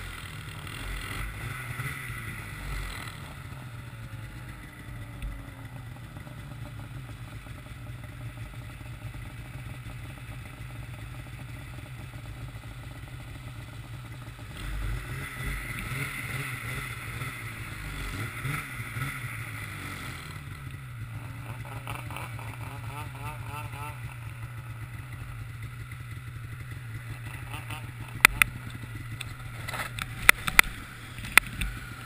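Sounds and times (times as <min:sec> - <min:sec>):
snowmobile engine humming: 0:00.0 - 0:32.0.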